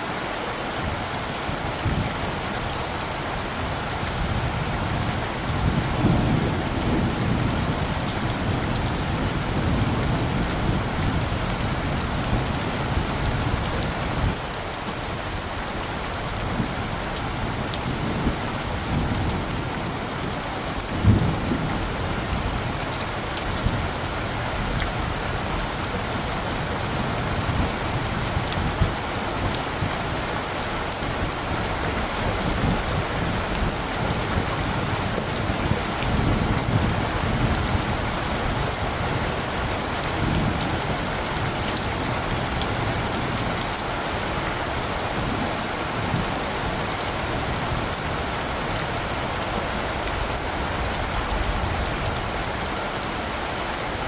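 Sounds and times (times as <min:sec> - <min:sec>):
rain falling: 0:00.0 - 0:54.0
distant thunder rumbles: 0:01.8 - 0:14.4, 0:16.3 - 0:52.6.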